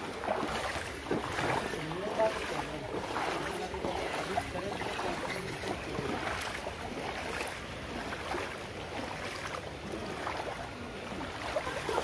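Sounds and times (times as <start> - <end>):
floodwater sloshing and lapping: 0.0 - 12.0.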